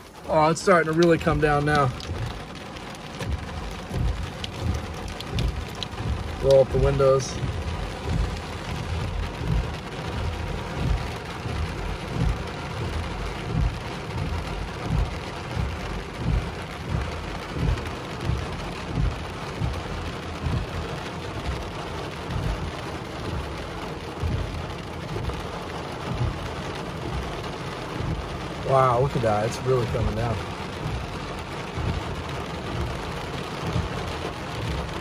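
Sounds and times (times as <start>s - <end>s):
heavy rain on car roof: 0.0s - 35.0s.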